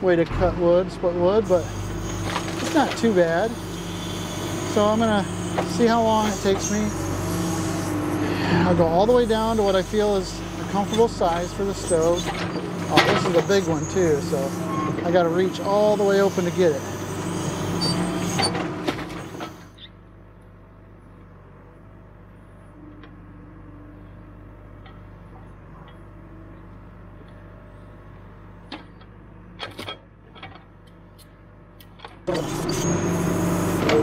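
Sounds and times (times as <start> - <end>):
backhoe engine running: 0.0 - 34.0.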